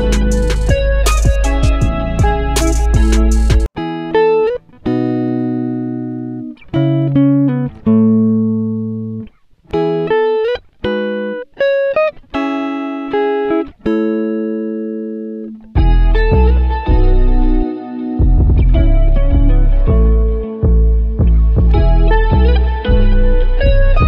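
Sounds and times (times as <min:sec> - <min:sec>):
slow plucked guitar-like melody: 0:00.0 - 0:24.0.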